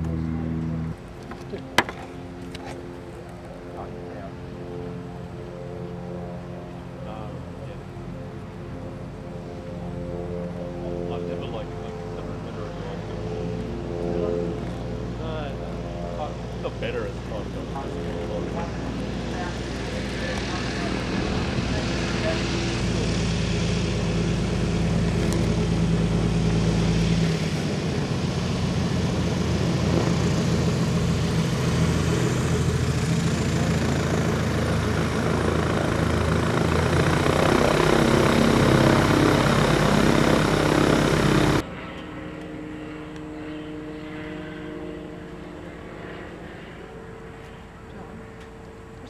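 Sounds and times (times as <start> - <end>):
quiet steady rush: 0.0 - 43.2
propeller aircraft engine running: 0.0 - 49.0.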